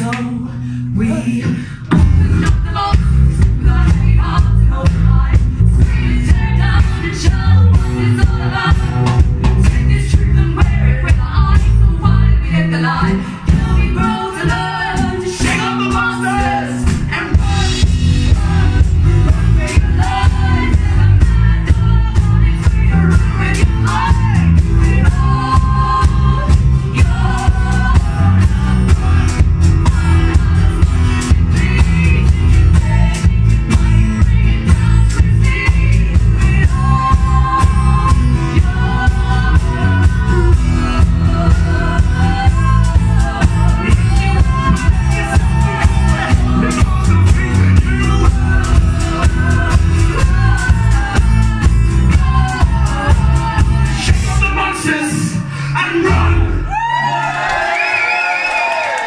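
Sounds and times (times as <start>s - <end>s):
person singing: 0.0s - 56.8s
live band playing: 0.0s - 59.0s.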